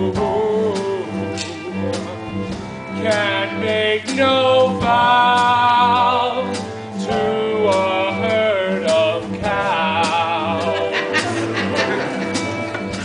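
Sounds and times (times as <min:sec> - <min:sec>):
man singing: 0:00.0 - 0:02.3, 0:02.9 - 0:13.0
instrumental accompaniment: 0:00.0 - 0:13.0.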